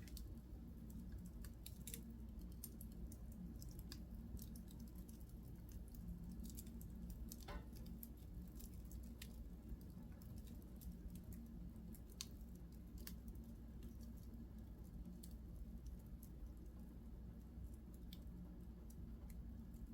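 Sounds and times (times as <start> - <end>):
low steady hum: 0.0 - 19.9
wood fire crackling: 0.0 - 19.9.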